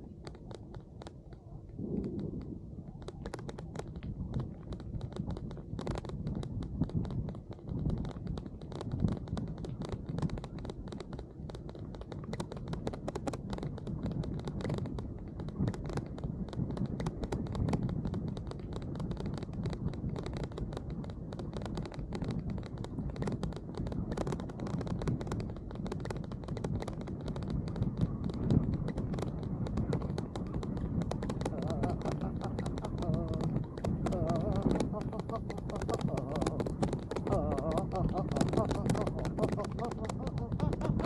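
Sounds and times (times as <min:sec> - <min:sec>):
bike riding rumble: 0:00.0 - 0:41.0
raindrops hitting a camera: 0:00.0 - 0:41.0.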